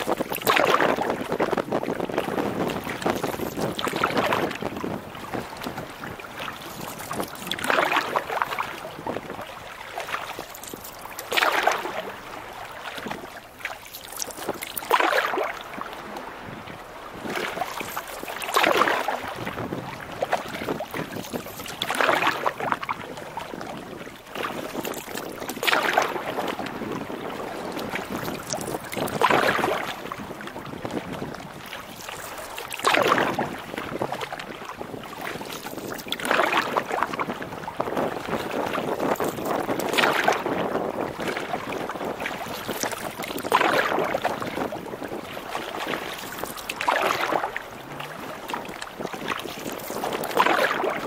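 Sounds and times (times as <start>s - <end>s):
canoe paddle strokes: 0.0s - 51.0s
water noise: 0.0s - 51.0s
wind noise: 0.0s - 51.0s.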